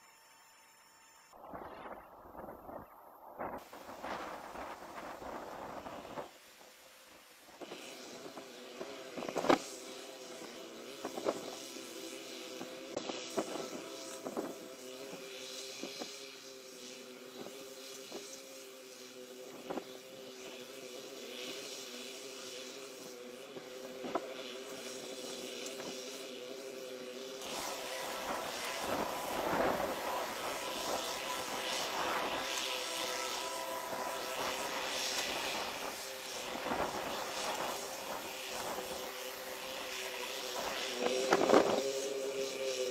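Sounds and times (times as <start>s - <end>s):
locomotive engine drone: 0.0s - 42.9s.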